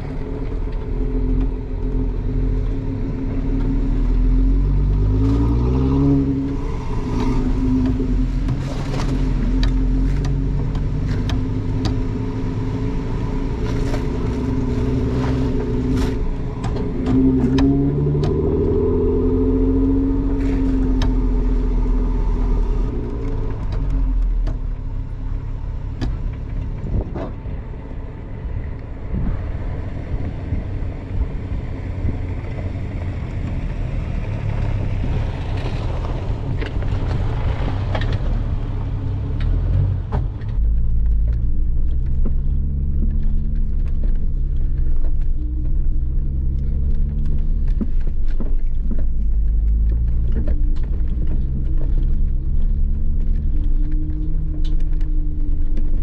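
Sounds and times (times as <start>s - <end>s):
tyres rumbling on rough ground: 0.0s - 56.0s
vehicle engine: 0.0s - 56.0s.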